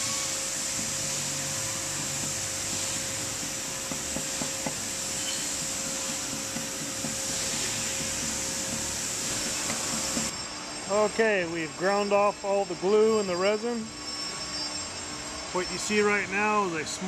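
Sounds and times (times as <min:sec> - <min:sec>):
electric grinder on stone: 0:00.0 - 0:17.0.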